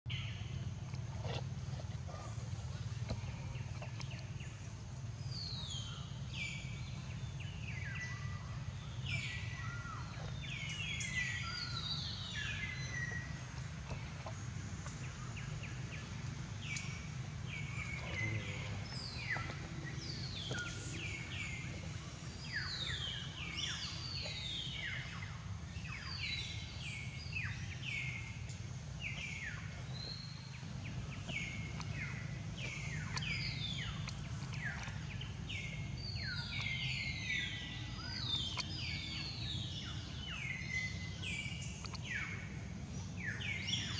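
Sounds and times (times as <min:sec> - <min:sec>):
steady low rumble: 0:00.2 - 0:43.9.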